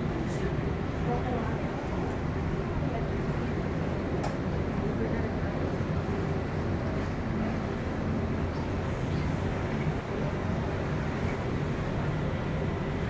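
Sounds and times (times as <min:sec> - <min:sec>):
ship engine rumble: 0:00.0 - 0:13.0.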